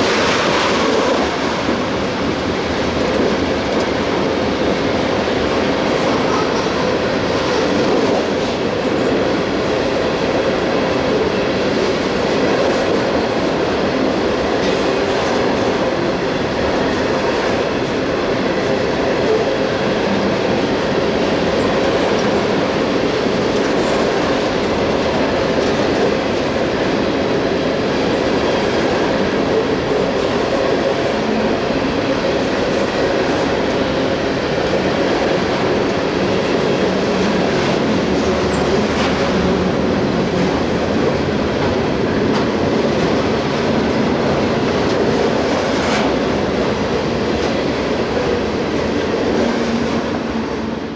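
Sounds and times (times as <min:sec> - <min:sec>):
train wheels on rails: 0:00.0 - 0:50.9.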